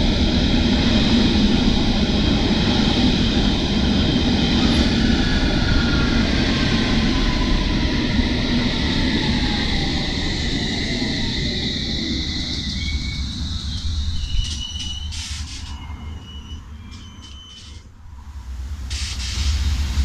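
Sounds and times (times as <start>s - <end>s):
train rumbling and braking: 0.0s - 20.0s.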